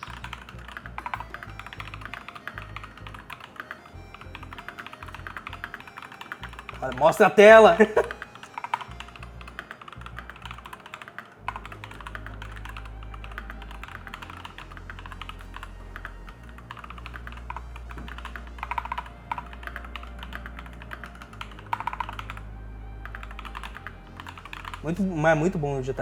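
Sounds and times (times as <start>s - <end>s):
fast mechanical keyboard typing: 0.0s - 22.4s, 23.0s - 25.0s.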